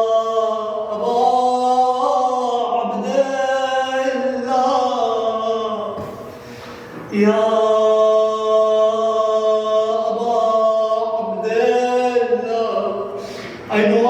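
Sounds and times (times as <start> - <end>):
man chanting a lament: 0.0 - 6.0, 7.1 - 14.0.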